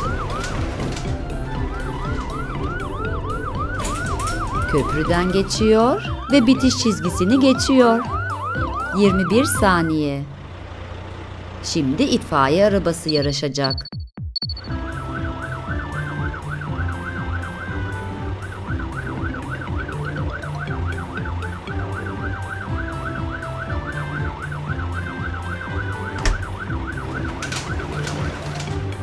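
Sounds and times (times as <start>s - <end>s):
cartoon fire engine siren yelping: 0.0s - 10.4s, 14.7s - 29.0s.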